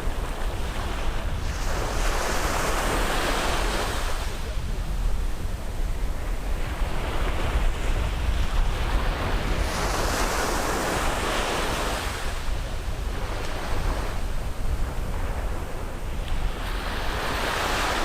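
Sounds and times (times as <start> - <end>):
surf wash: 0.0 - 18.0
wind rumble on microphone: 0.0 - 18.0.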